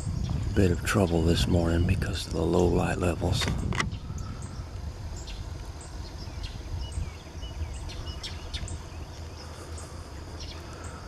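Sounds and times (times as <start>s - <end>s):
birds chirping: 0.0s - 11.0s
wind rumble on microphone: 0.0s - 11.0s.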